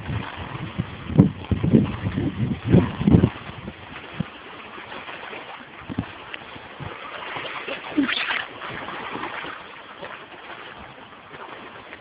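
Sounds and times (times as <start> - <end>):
shallow water splashing: 0.0 - 12.0.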